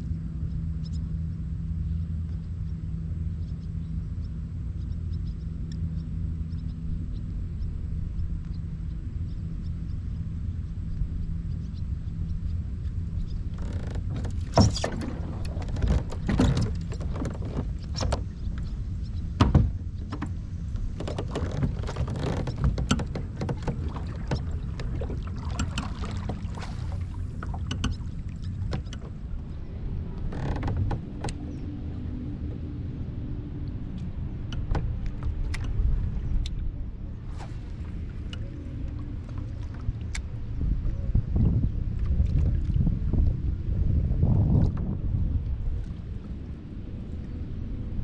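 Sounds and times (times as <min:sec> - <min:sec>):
steady low rumble: 0:00.0 - 0:48.0.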